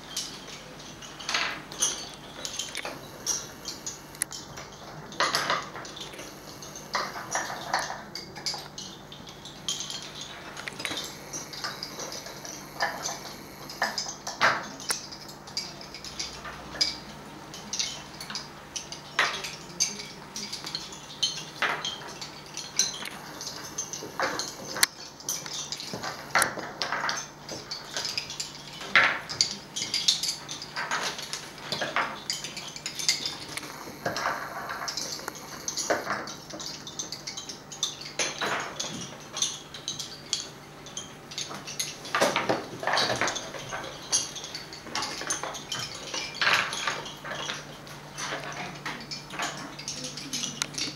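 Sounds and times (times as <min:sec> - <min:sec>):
wooden bobbins clicking: 0:00.0 - 0:50.9.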